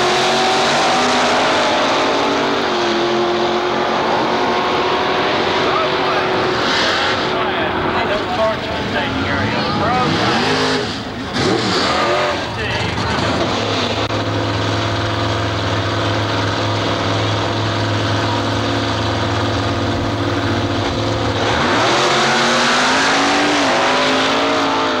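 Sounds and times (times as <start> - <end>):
drag car engines revving: 0.0 - 25.0.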